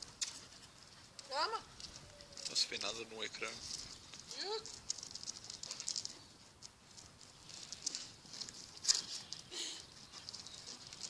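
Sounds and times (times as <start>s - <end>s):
dog claws clicking on concrete: 0.2s - 11.0s.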